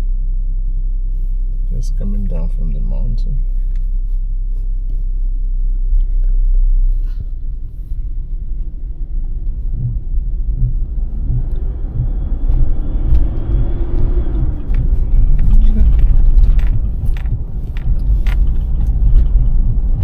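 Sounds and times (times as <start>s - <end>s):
car engine rumble: 0.0s - 20.0s
road noise: 0.8s - 20.0s.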